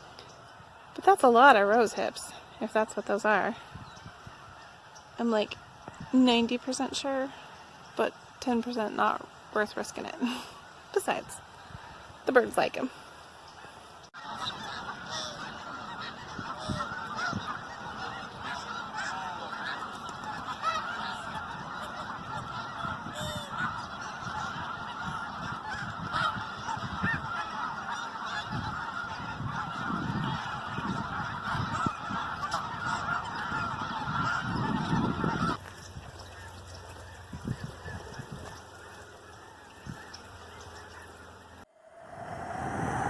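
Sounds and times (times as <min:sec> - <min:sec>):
flock of geese honking: 0:00.0 - 0:41.7.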